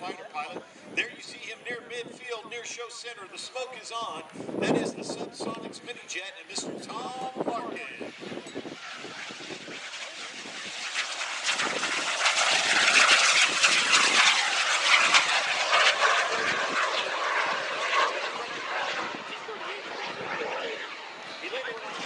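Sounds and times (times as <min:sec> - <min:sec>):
small jet engine noise: 0:00.0 - 0:22.0.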